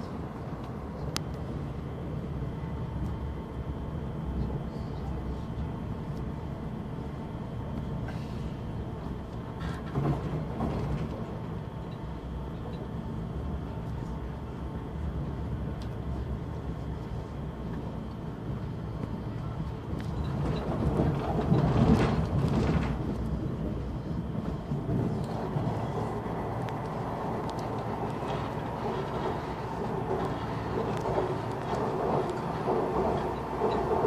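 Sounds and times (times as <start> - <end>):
electric train rumbling: 0.0 - 34.0.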